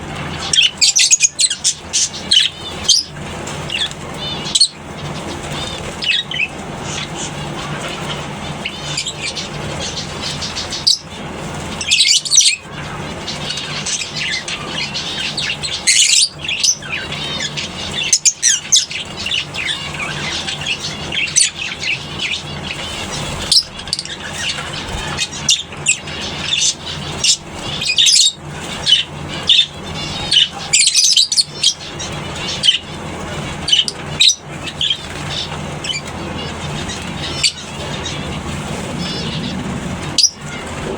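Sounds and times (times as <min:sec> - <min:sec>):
lovebirds chirping: 0:00.0 - 0:40.9
steady low hum: 0:00.0 - 0:40.9.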